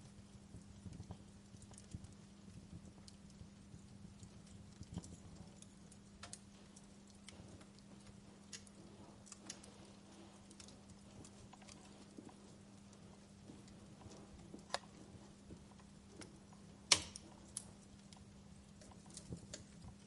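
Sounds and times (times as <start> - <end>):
faint low hum: 0.0 - 20.0
wood fire crackling: 0.0 - 20.0.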